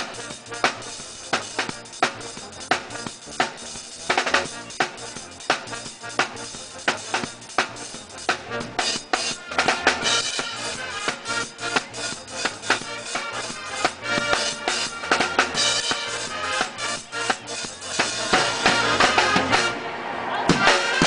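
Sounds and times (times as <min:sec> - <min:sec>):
drums beating: 0:00.0 - 0:21.0
pitched percussion instruments: 0:00.0 - 0:21.0.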